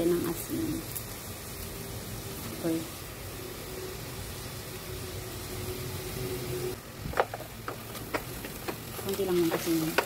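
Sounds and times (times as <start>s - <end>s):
chicken sizzling in a pot: 0.0s - 10.0s.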